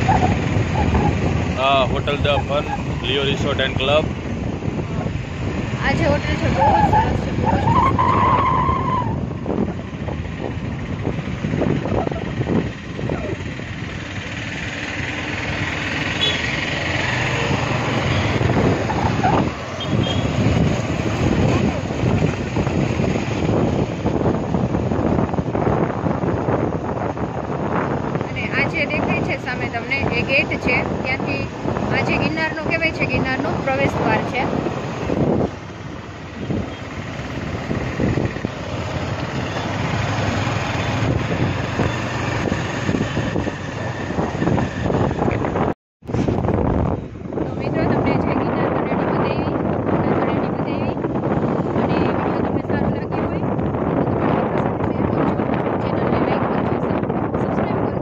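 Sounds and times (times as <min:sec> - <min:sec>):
rushing air and road noise: 0:00.0 - 0:58.0
motorcycle engine running: 0:09.4 - 0:58.0.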